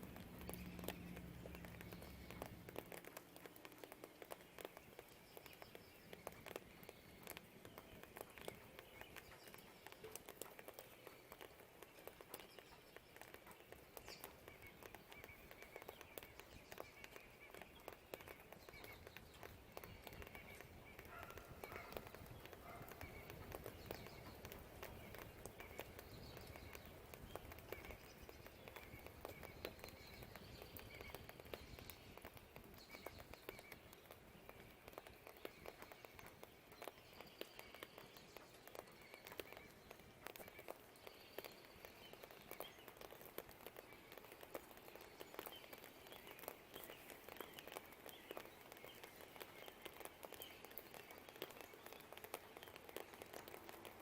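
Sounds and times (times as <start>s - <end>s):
birds chirping: 0.0s - 54.0s
light rain dripping: 0.0s - 54.0s.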